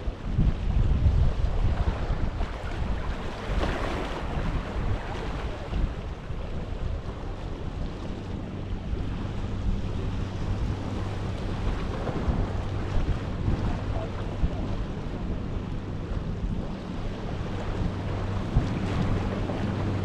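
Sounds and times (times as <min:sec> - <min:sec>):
low steady hum: 0:00.0 - 0:20.0
sea waves washing on shore: 0:00.0 - 0:20.0
wind buffeting microphone: 0:00.0 - 0:20.0.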